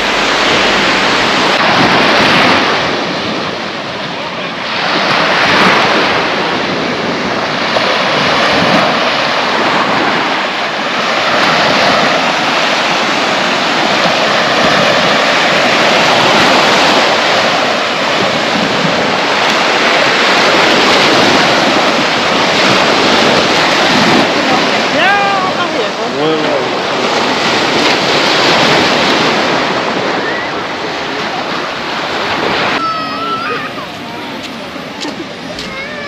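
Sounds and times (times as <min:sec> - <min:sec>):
sea waves washing onto beach: 0:00.0 - 0:36.0.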